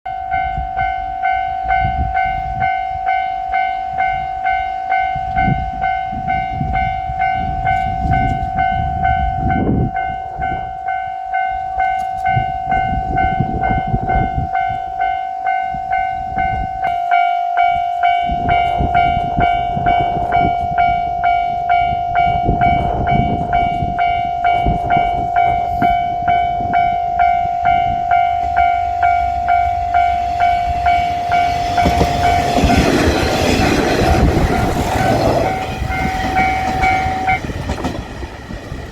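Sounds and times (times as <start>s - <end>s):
railroad crossing bell ringing: 0.1s - 38.9s
train rumbling: 0.1s - 38.9s.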